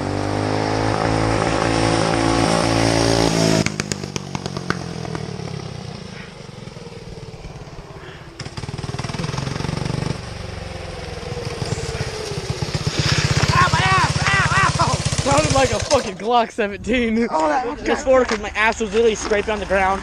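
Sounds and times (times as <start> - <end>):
go-kart engine revving: 0.0 - 16.4.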